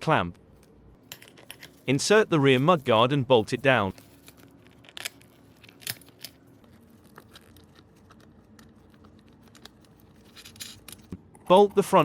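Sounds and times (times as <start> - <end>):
bike parts and tools handling: 0.6 - 3.0, 3.6 - 11.2.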